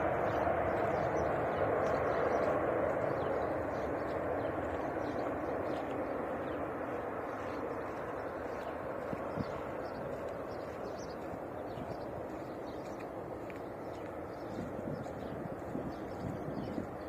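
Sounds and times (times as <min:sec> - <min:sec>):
jet airliner engine roar: 0:00.0 - 0:17.0.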